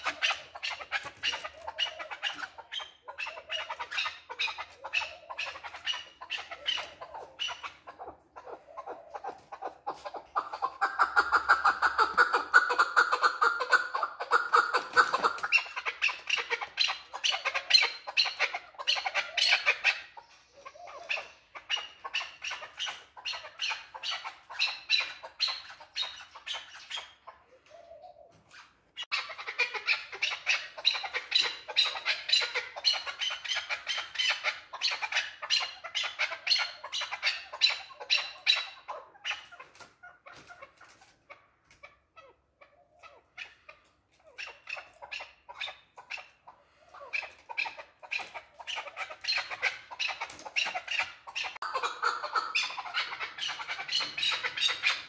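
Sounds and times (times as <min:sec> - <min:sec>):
partridge calling: 0:00.0 - 0:55.0.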